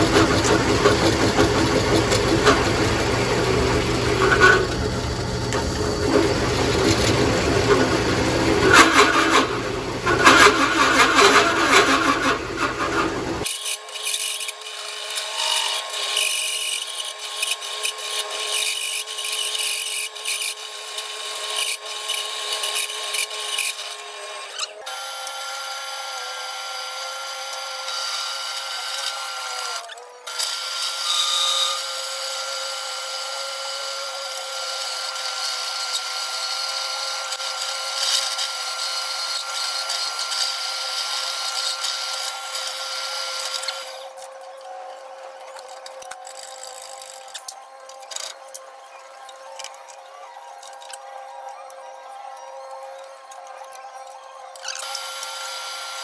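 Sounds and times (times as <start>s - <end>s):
drill press cutting sheet steel: 0.0s - 48.4s, 54.6s - 56.0s.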